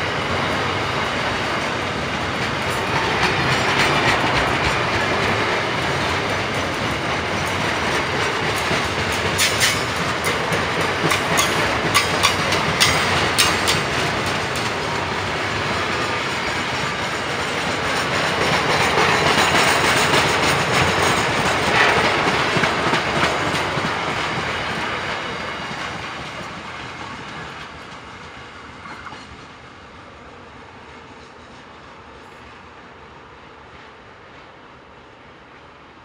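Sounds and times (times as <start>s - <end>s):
freight train wheels clattering: 0.0s - 29.6s.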